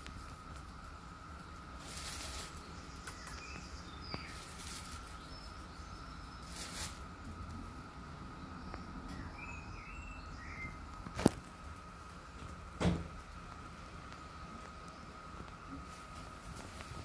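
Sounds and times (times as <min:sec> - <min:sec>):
faint high hum: 0:00.0 - 0:17.0.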